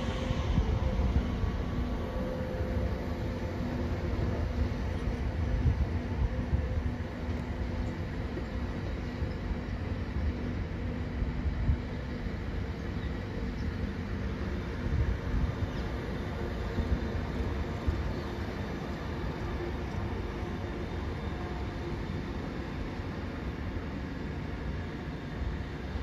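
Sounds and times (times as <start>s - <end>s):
faint steady hum: 0.0s - 26.0s
train wheels rumbling on track: 0.0s - 26.0s.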